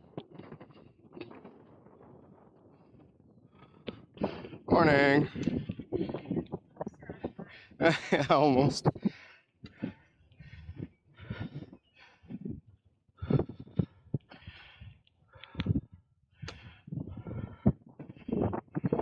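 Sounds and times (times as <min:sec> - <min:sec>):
heavy rapid breathing: 0:03.5 - 0:19.0.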